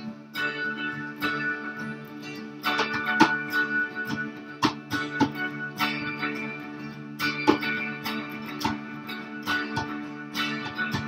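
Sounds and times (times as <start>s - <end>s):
acoustic guitar strummed: 0.0s - 11.0s
electric guitar playing: 0.0s - 11.0s.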